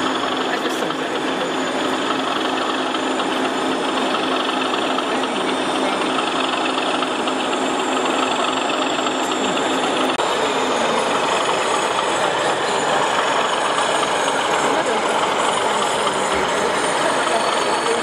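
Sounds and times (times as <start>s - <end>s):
model diesel engine drone: 0.0s - 18.0s.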